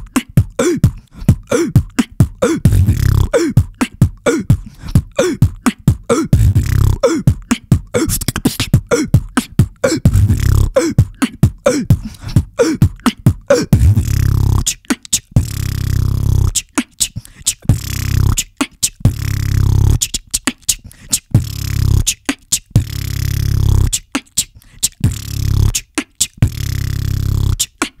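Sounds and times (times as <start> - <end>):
held vocal bass notes: 0.0 - 20.1, 20.7 - 24.1, 24.9 - 27.7
beatboxing kick drums: 0.0 - 28.0
beatboxing snare and hi-hat clicks: 0.0 - 28.0.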